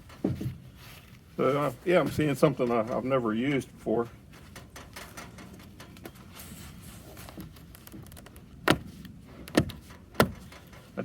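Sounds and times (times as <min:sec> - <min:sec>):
rustling of fabric and foam: 0:00.0 - 0:11.0.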